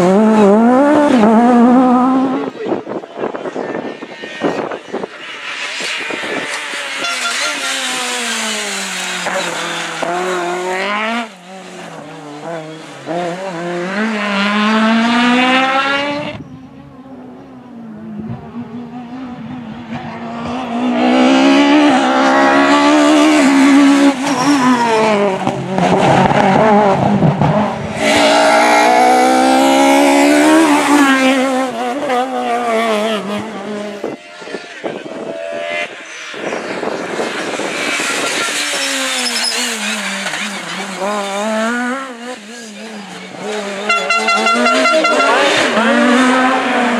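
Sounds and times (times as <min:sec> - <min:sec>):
rally car engine accelerating hard: 0:00.0 - 0:16.5, 0:17.9 - 0:46.9.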